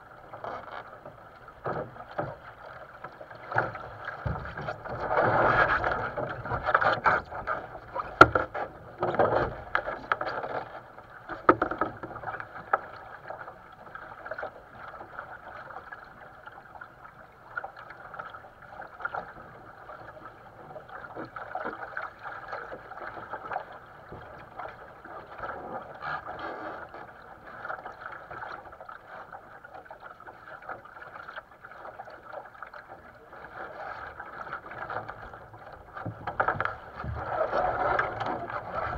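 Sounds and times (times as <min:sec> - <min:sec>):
water rushing along hull: 0:00.0 - 0:38.9.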